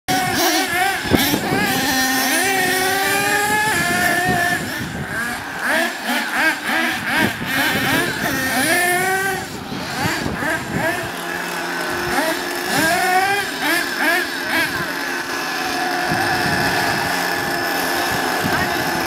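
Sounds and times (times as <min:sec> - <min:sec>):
small model engine revving: 0:00.1 - 0:19.0.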